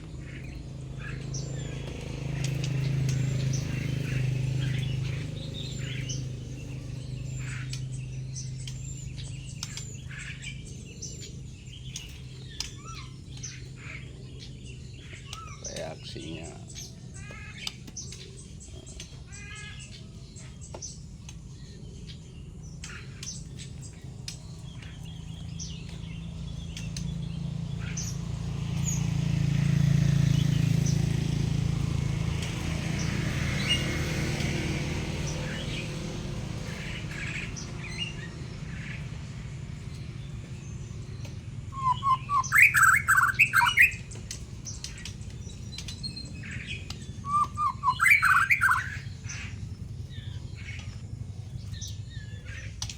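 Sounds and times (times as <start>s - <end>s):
bird chirping and calling: 0.0s - 52.9s.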